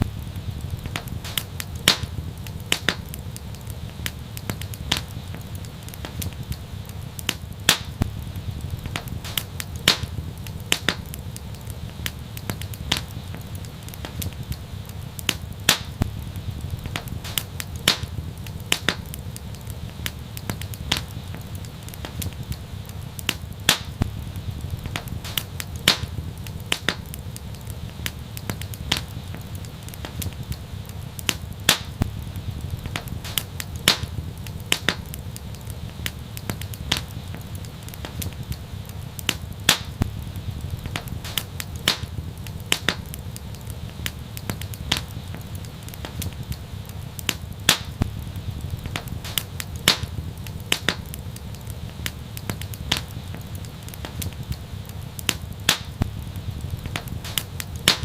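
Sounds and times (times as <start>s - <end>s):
fire rumble: 0.0s - 58.0s
fire snaps and pops: 0.0s - 58.0s.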